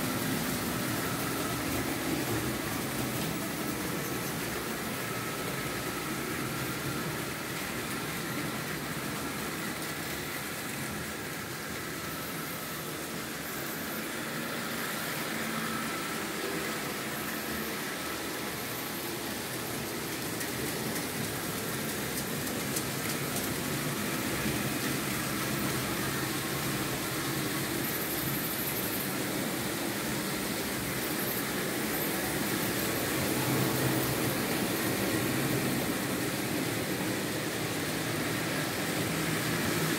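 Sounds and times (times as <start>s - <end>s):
model train motors humming: 0.0s - 39.9s
wheels rumbling on rails: 0.0s - 39.9s.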